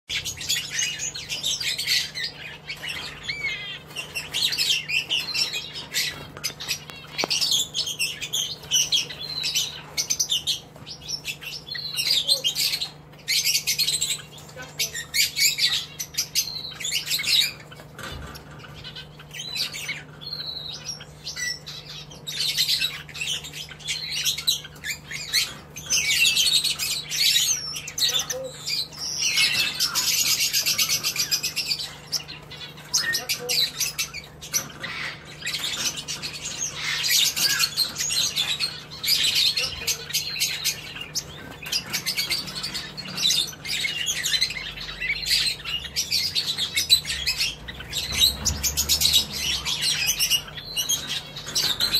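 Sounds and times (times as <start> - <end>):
birds chirping and twittering: 0.0 - 51.9.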